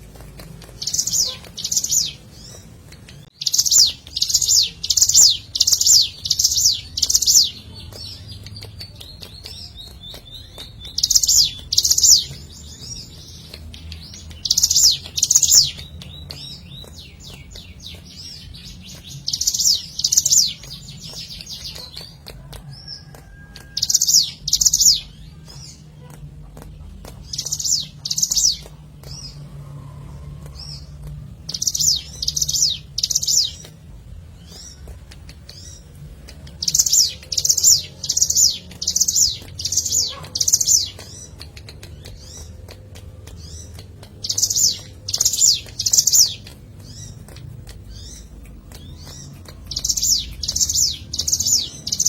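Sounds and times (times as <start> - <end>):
bird chirping in fast bursts: 0.0 - 52.0.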